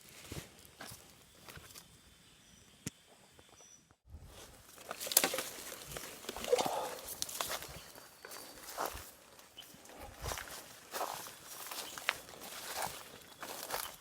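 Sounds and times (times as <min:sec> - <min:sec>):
rustling and scuffing footsteps: 0:00.0 - 0:01.9, 0:04.2 - 0:14.0.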